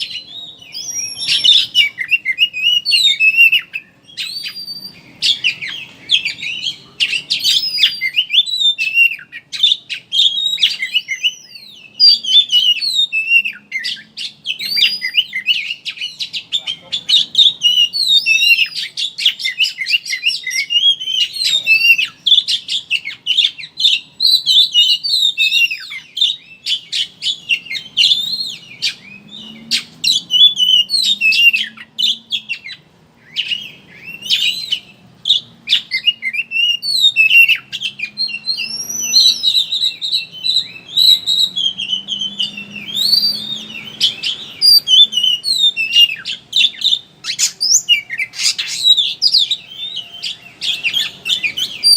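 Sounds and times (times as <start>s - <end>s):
magpie-robin singing: 0.0s - 51.9s.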